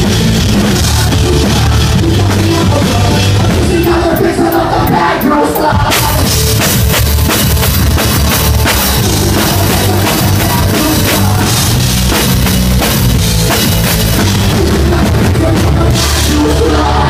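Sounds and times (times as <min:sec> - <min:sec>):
drums and cymbals: 0:00.0 - 0:17.0
live rock band playing: 0:00.0 - 0:17.0.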